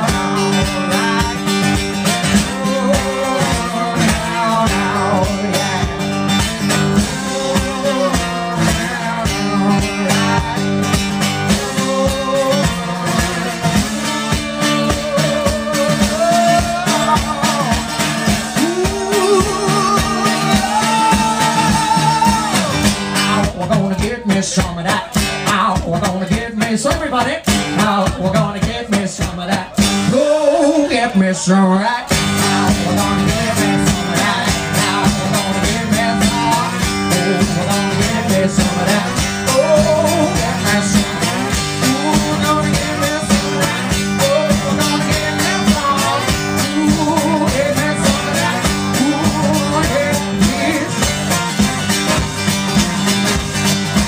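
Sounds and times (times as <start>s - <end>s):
amplified blues guitar: 0.0s - 54.0s
man singing: 0.0s - 54.0s.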